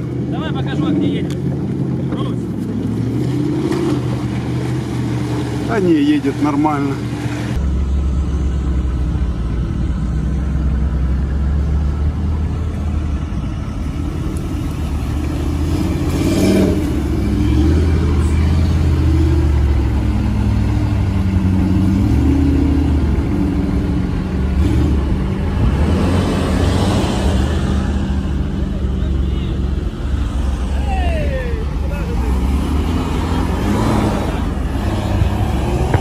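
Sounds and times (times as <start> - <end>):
car engine revving under load: 0.0 - 30.8, 31.6 - 36.0.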